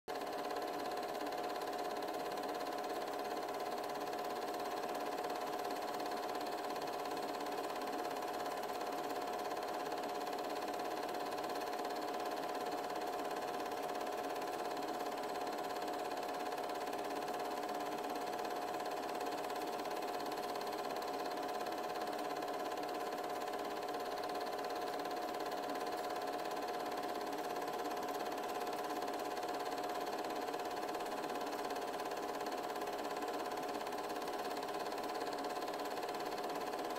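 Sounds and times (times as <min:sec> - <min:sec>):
film projector whirring: 0:00.1 - 0:36.9.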